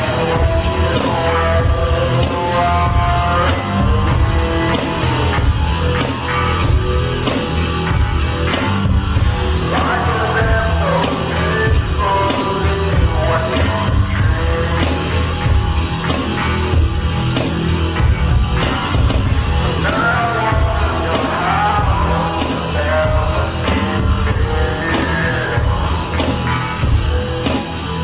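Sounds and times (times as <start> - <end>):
heavy rock music: 0.0 - 28.0.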